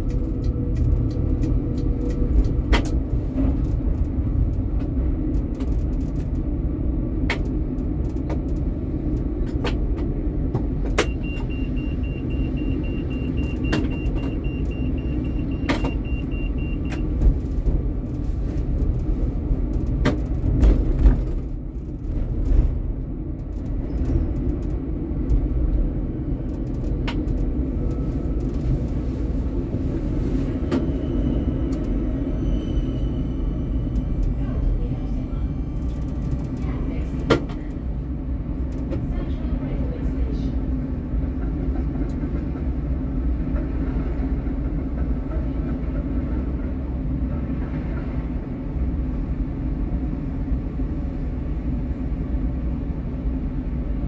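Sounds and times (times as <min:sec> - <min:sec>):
tram rumbling: 0:00.0 - 0:54.0.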